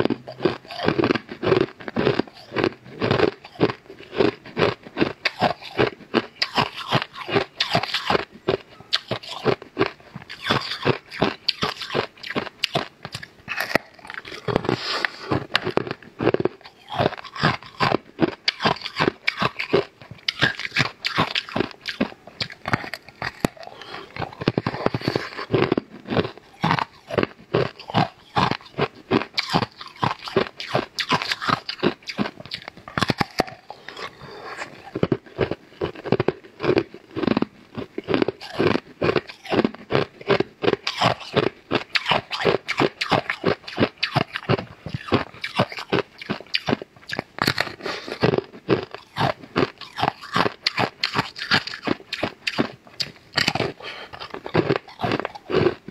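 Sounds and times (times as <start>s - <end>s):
chewing pastry: 0.0s - 55.9s
mouth clicks and smacks: 0.0s - 55.9s.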